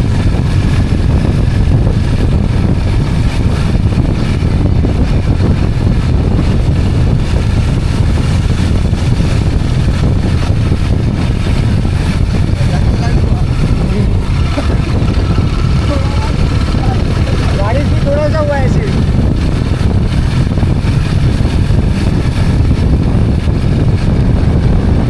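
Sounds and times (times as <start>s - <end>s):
motorbike engine running: 0.0s - 25.0s
wind on microphone: 0.0s - 25.0s.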